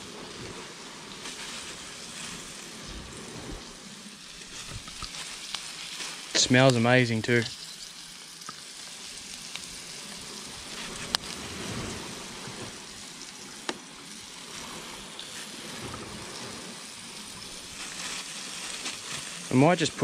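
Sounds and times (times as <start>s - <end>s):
seafood frying in hot oil: 0.0s - 20.0s.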